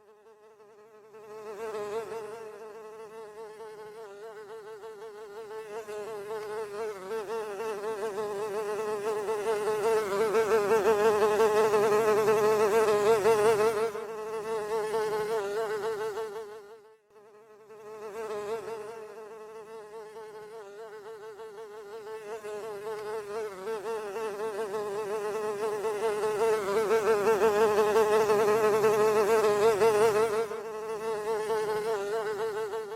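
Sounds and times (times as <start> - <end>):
fly buzzing in flight: 0.0 - 32.9.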